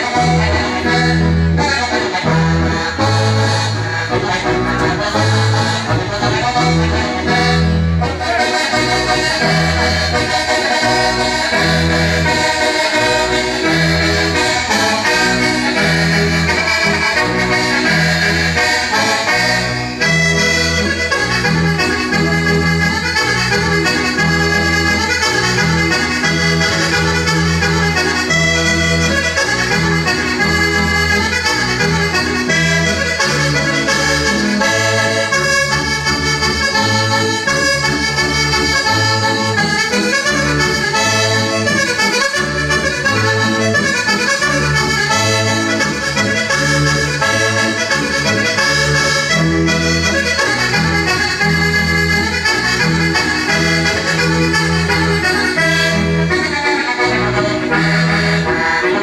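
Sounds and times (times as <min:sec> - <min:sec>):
button accordion dance tune: 0:00.0 - 0:59.0.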